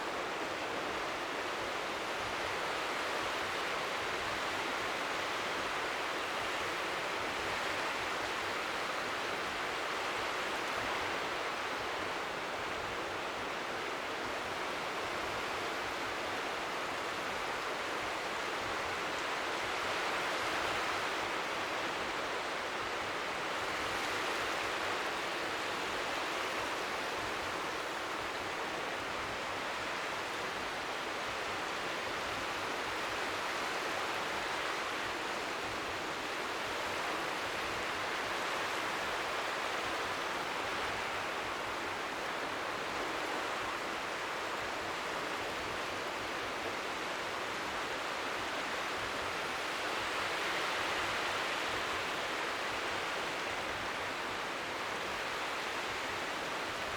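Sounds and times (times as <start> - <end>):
waves lapping on shore: 0.0 - 56.9.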